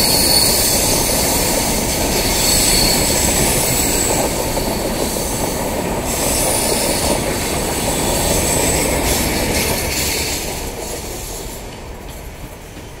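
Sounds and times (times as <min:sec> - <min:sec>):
high wheel squeal: 0:00.0 - 0:11.6
train coaches rumbling on rails: 0:00.0 - 0:13.0.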